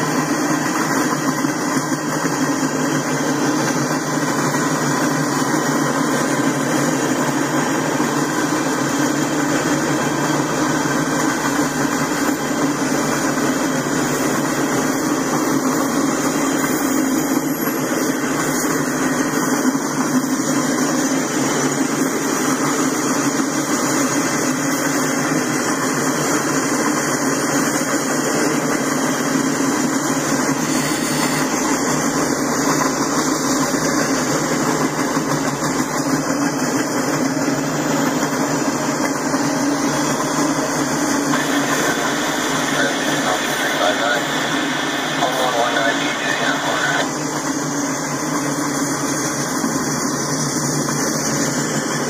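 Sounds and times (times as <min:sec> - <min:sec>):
freight train wheels rolling on rails: 0:00.0 - 0:52.0.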